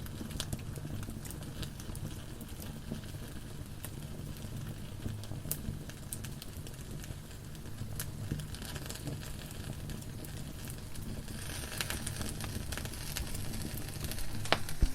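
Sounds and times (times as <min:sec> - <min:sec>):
fire low rumble: 0:00.0 - 0:14.9
wood fire crackling and popping: 0:00.0 - 0:14.9.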